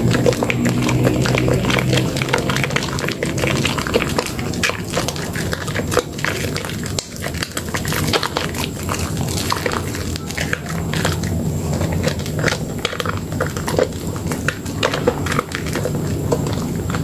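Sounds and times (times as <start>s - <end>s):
bubbles popping: 0.0s - 17.0s
wet squelching of soap lather: 0.0s - 17.0s.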